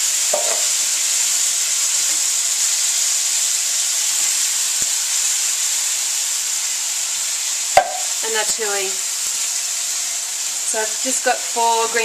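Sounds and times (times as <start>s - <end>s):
tomatoes sizzling in frying pan: 0.0s - 12.0s.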